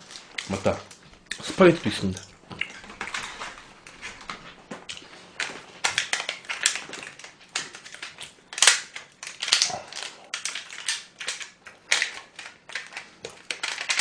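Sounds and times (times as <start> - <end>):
aluminium foil tray crinkling: 0.0 - 14.0.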